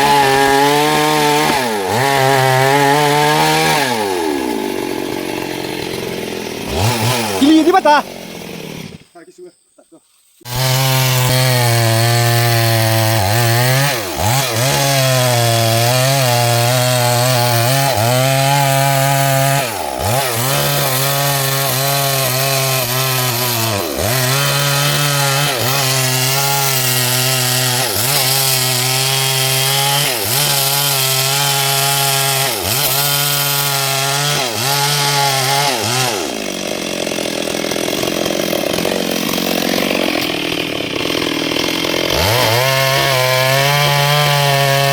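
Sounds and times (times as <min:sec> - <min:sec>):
chainsaw cutting wood: 0:00.0 - 0:09.3, 0:10.3 - 0:44.9.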